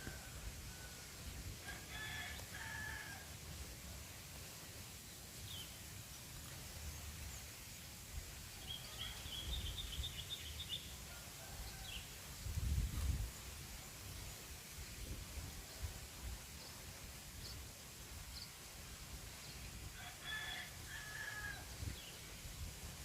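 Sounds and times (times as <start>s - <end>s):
low rumble of wind: 0.0s - 23.0s.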